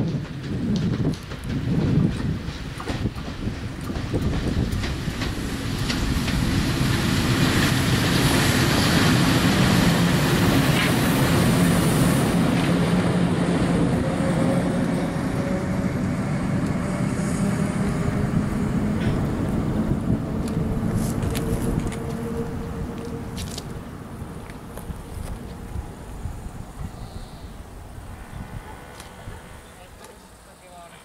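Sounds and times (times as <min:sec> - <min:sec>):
electric locomotive hum: 0:00.0 - 0:30.9
wheel noise on rails: 0:00.0 - 0:31.0.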